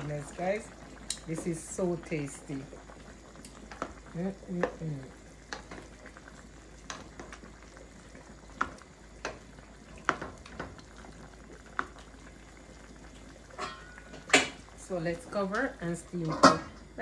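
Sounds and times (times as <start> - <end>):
stew bubbling faintly: 0.0 - 17.0.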